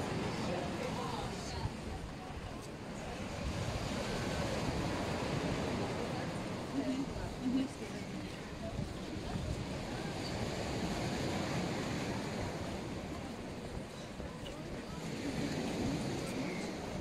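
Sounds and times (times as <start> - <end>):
surf washing against shore: 0.0 - 17.0
wind buffeting microphone: 0.0 - 17.0.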